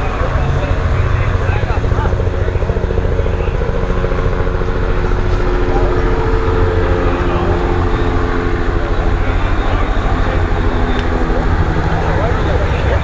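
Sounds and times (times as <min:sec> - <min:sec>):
crowd murmur: 0:00.0 - 0:13.0
helicopter engine whine: 0:00.0 - 0:13.0
helicopter rotor chopping: 0:00.0 - 0:13.0.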